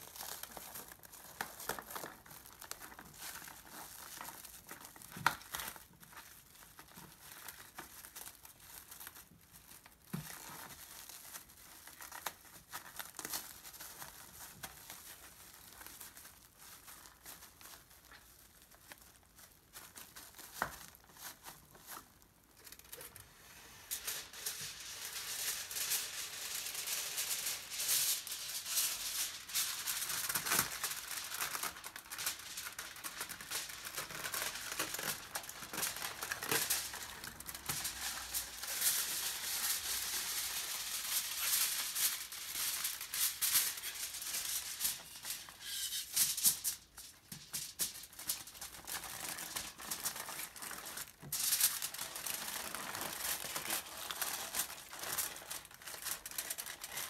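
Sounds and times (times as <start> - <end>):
aluminium foil crinkling: 0.0 - 57.0
paper and plastic wrap crinkling: 0.0 - 57.0.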